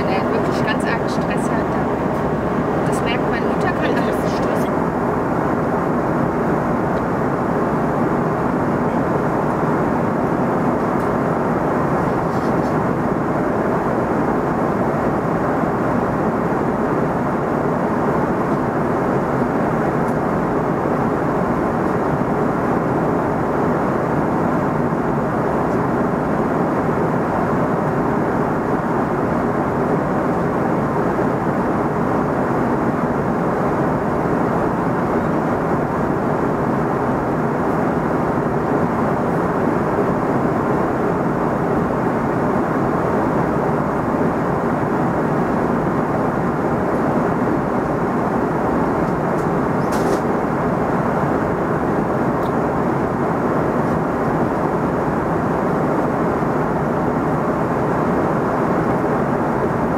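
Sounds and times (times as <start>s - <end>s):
airplane cabin noise: 0.0s - 59.9s.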